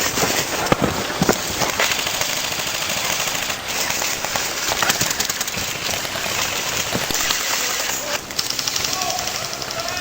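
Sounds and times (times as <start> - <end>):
airsoft guns firing rapid bursts: 0.0 - 10.0.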